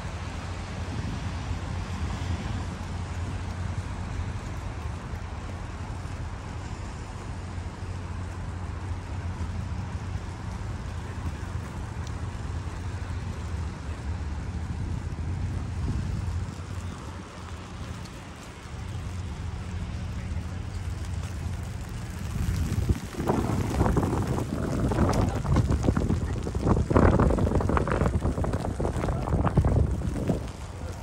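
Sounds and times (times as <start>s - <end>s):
distant city traffic: 0.0s - 31.0s
wind rumble: 0.0s - 31.0s.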